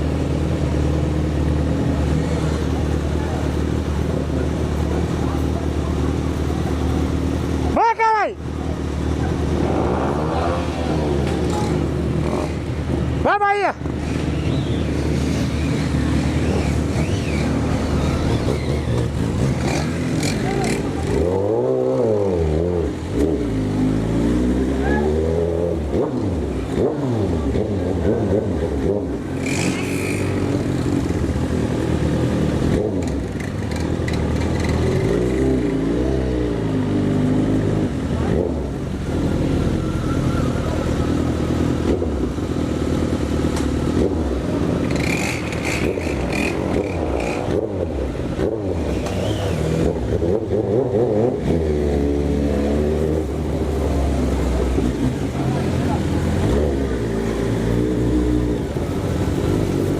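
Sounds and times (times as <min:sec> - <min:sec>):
motorcycle engine revving: 0:08.5 - 0:59.9.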